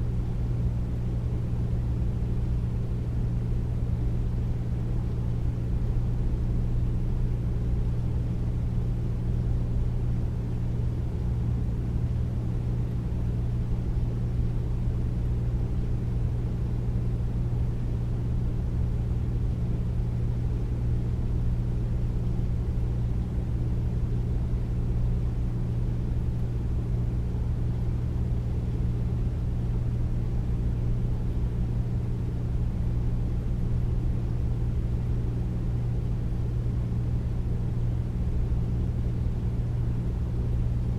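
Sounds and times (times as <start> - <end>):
air conditioner humming: 0.0 - 40.9.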